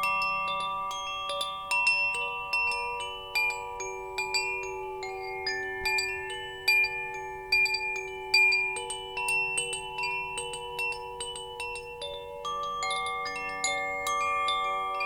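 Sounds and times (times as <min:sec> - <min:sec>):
metal wind chimes ringing: 0:00.0 - 0:15.0.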